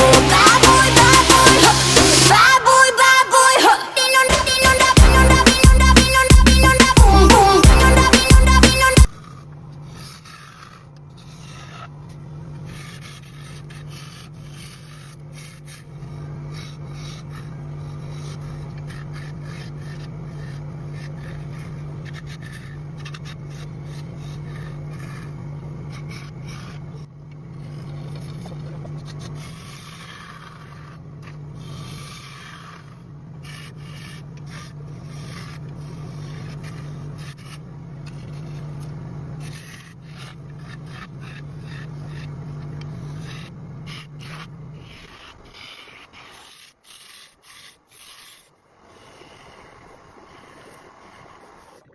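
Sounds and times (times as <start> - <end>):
tool scraping spinning wood: 0.0 - 51.9
wood lathe humming: 0.0 - 51.9.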